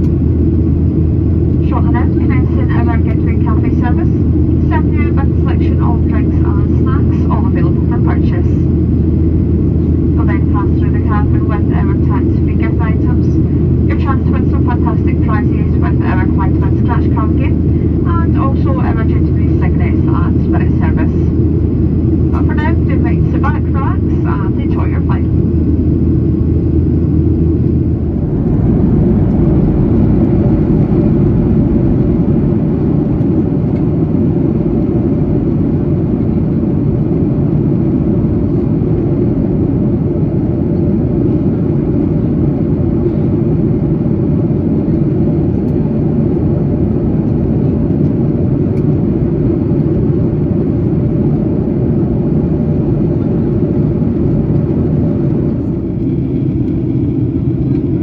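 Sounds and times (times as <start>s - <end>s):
faint steady hum: 0.0s - 58.0s
jet engine cabin rumble: 0.0s - 58.0s.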